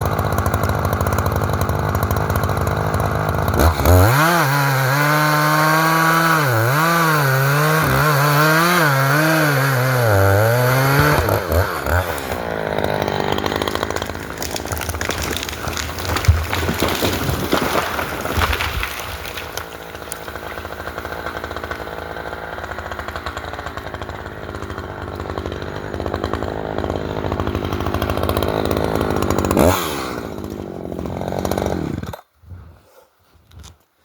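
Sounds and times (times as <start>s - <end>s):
chainsaw cutting timber: 0.0s - 32.7s.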